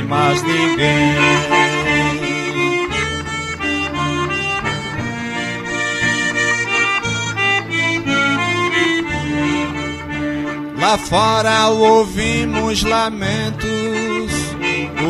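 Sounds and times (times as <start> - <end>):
accordion melody over bass notes: 0.0 - 15.0.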